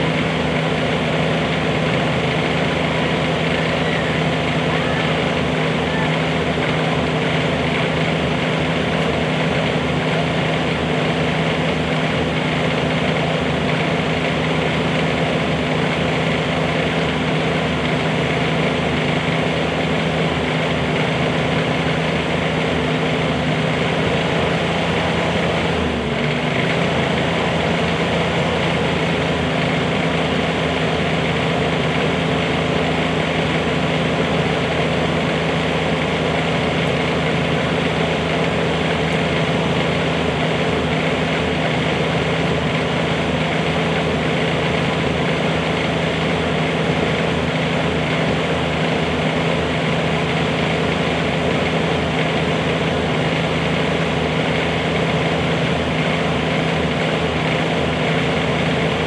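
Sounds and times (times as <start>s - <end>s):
mini excavator diesel engine: 0.0s - 59.0s.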